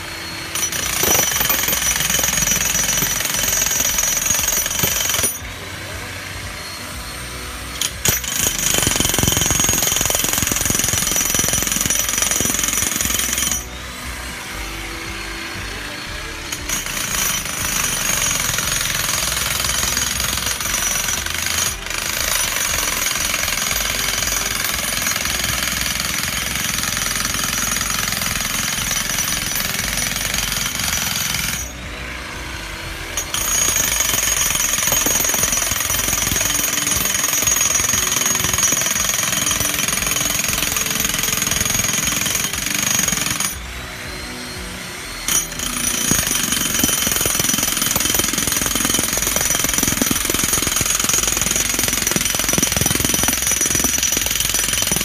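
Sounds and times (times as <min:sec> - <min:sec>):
electric demolition hammer hammering: 0:00.0 - 0:55.0.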